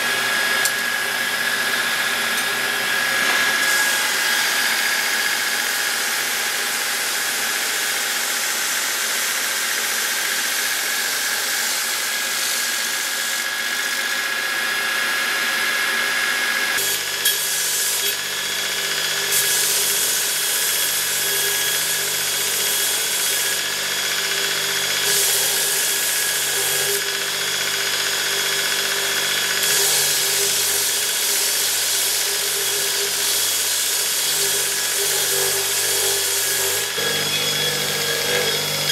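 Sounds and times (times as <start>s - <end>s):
power tool running: 0.0s - 38.9s.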